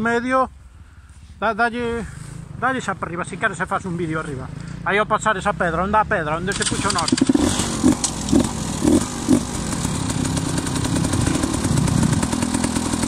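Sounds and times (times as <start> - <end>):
dirt bike engine revving: 2.0 - 13.0.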